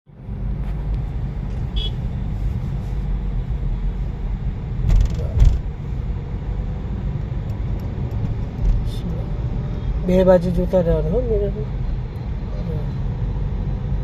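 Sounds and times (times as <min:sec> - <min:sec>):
car engine and road rumble: 0:00.1 - 0:14.0.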